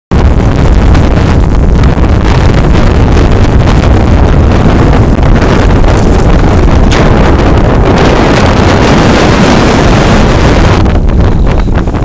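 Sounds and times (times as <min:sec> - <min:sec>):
wind buffeting the microphone: 0:00.1 - 0:12.0.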